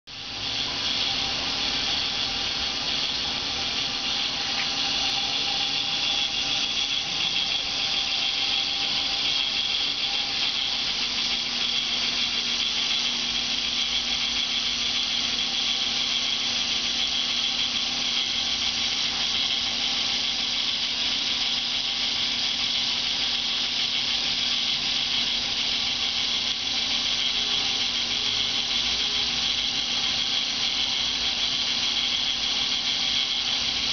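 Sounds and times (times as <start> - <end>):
motor and plastic gears running: 0.1 - 33.9.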